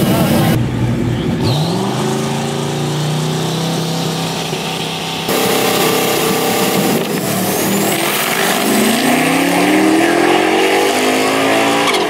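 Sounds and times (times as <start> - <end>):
drag-race cars accelerating: 0.0 - 12.0.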